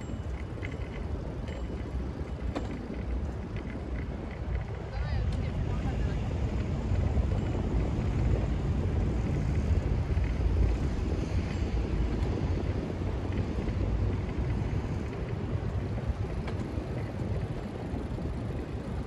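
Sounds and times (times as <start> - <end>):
vehicle and wind rumble: 0.0 - 19.0.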